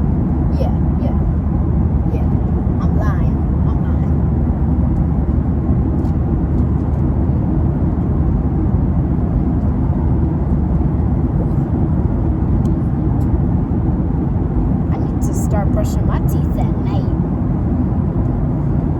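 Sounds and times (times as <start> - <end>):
airliner cabin rumble: 0.0 - 18.9.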